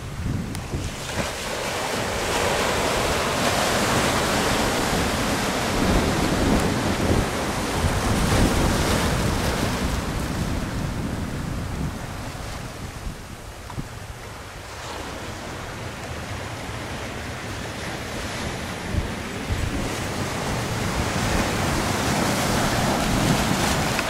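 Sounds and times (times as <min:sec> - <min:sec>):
surf washing over cobblestones: 0:00.0 - 0:24.0
wind buffeting microphone: 0:00.0 - 0:24.0.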